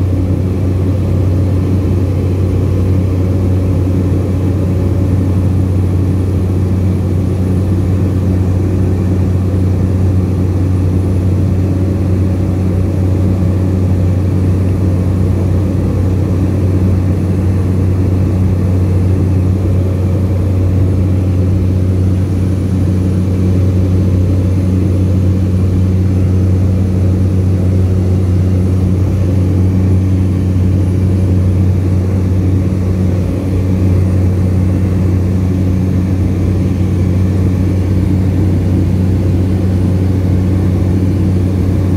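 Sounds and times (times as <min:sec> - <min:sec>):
propeller plane engine drone: 0:00.0 - 0:41.9.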